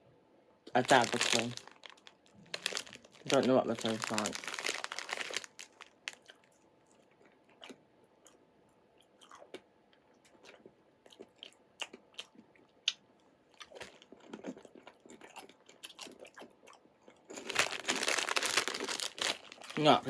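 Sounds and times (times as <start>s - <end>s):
person chewing crunchy snack: 0.8s - 8.4s, 10.3s - 20.0s.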